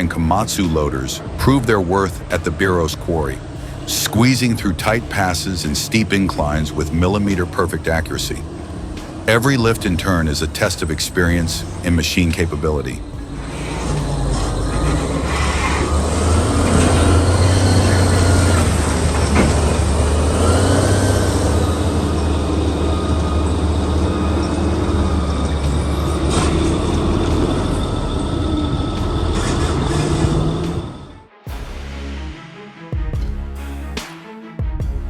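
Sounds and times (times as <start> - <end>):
diesel loader engine rumbling: 0.0 - 31.2.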